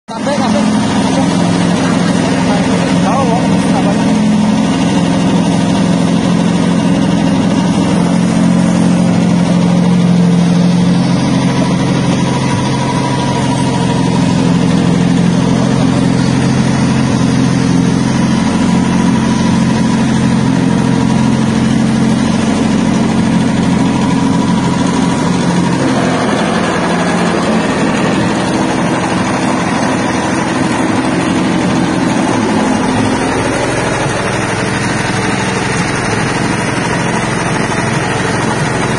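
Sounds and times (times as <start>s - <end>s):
dehulling machine motor hum: 0.1s - 38.9s.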